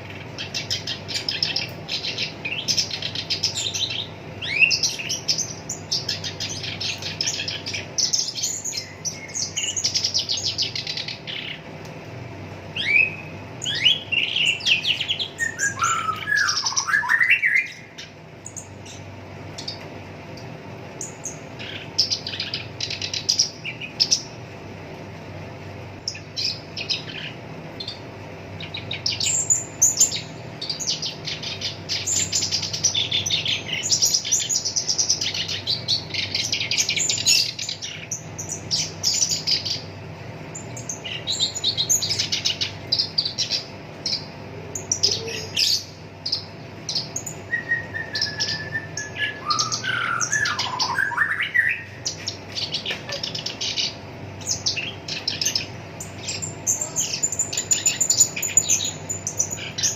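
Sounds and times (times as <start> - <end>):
reed warbler singing: 0.0 - 19.9, 20.9 - 24.4, 26.0 - 59.9.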